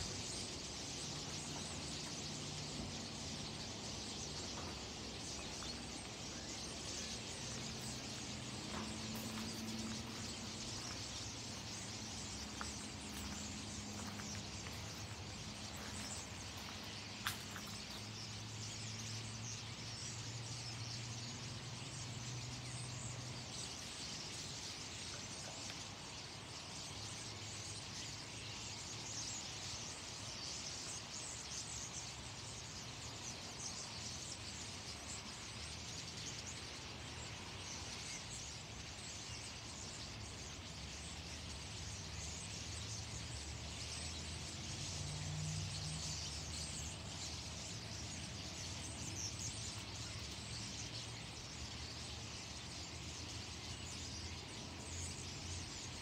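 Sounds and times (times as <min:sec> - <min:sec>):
flock of birds chattering: 0:00.0 - 0:56.0.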